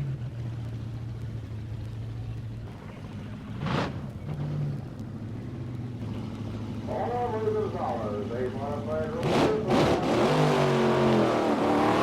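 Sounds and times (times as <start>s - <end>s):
race car engine idling: 0.0s - 9.7s.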